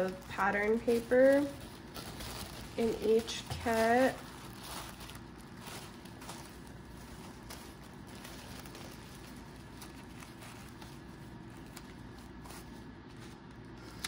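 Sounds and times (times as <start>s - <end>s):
tissue paper rustling and crinkling: 0.0s - 14.0s.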